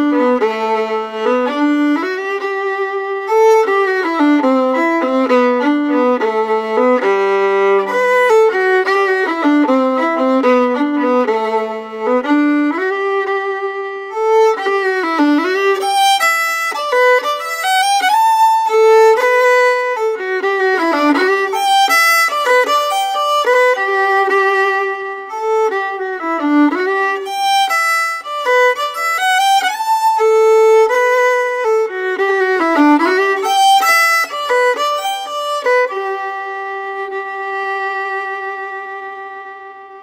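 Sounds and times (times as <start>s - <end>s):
slow melancholy fiddle tune: 0.0s - 40.0s.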